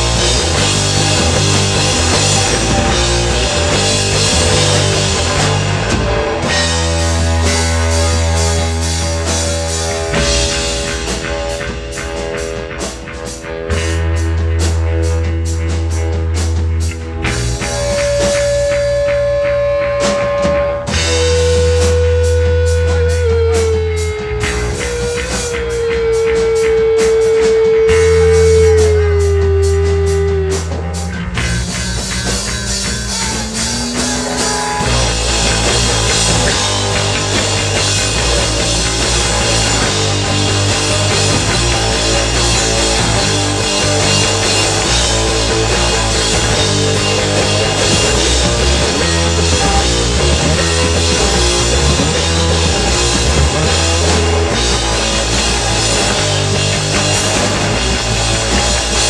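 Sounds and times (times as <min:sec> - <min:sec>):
heavy bass: 0:00.0 - 0:59.0
sliding lead guitar notes: 0:00.0 - 0:59.0
steady drum beat: 0:00.0 - 0:59.0.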